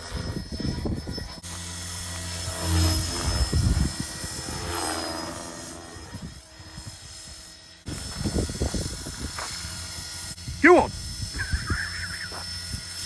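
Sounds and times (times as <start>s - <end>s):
helicopter motor and rotor whirring: 0.0s - 13.0s.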